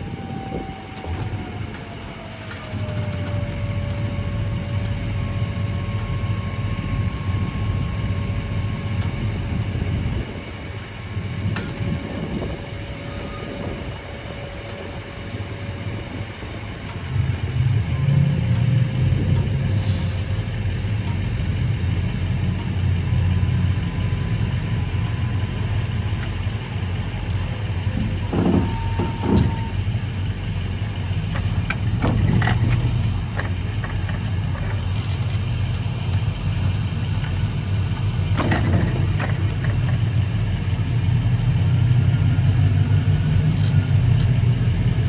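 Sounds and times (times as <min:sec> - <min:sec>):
faint steady whine: 0:00.0 - 0:45.0
truck engine running: 0:00.0 - 0:45.0.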